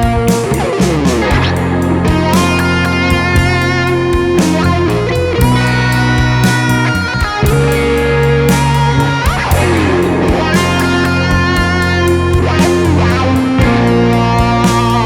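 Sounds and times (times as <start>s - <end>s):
song with electric guitar: 0.0s - 15.0s
steady beat: 0.0s - 15.0s.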